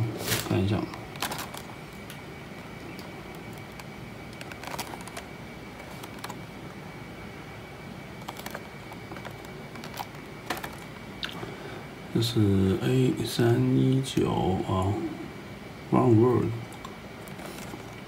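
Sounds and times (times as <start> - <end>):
background hiss: 0.0 - 18.0
faint high whine: 0.0 - 18.0.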